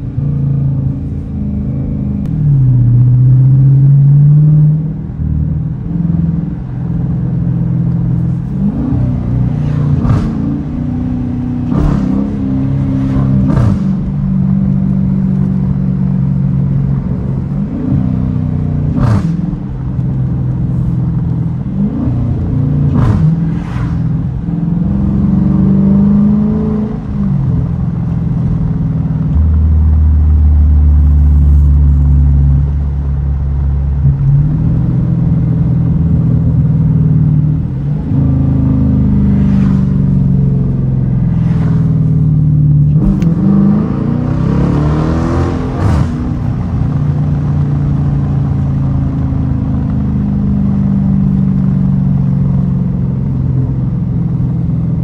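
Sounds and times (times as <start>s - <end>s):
car engine heard from cabin: 0.0s - 55.0s.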